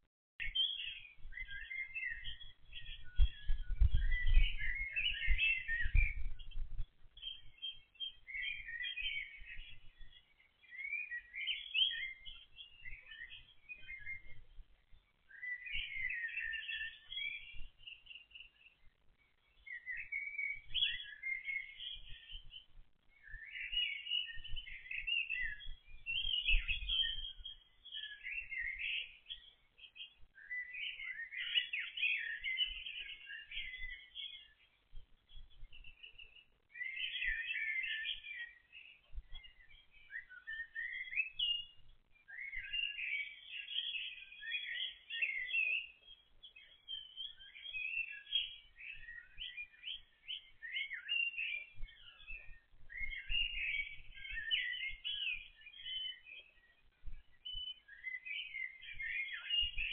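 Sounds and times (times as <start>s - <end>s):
songbirds chirping and singing: 0.4s - 59.9s.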